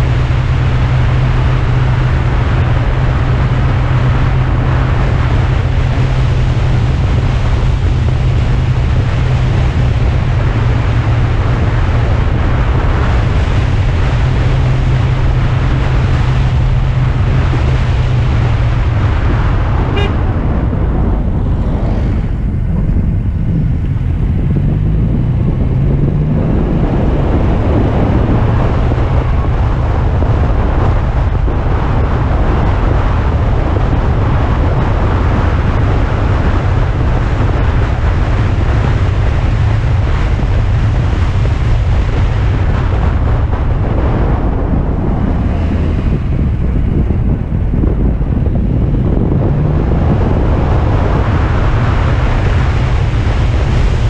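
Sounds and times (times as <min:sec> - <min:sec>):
car engine running: 0:00.0 - 0:54.0
wind and road noise: 0:00.0 - 0:54.0.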